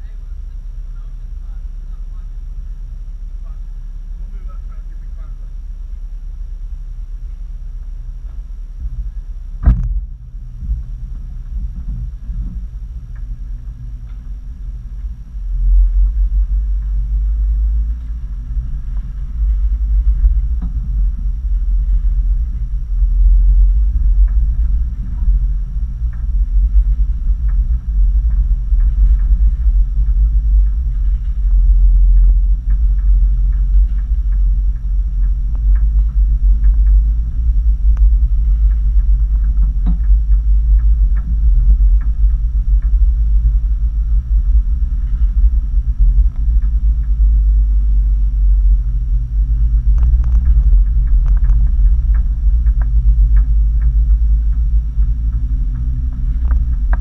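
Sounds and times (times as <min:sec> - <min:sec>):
off-road vehicle rumbling: 0:00.0 - 0:57.0.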